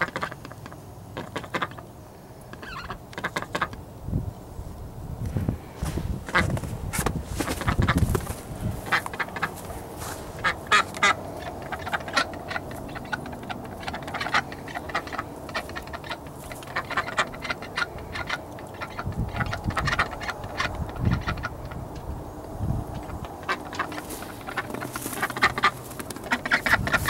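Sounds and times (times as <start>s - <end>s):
ducks quacking: 0.0s - 1.9s, 2.5s - 3.8s, 5.9s - 6.6s, 7.4s - 27.0s.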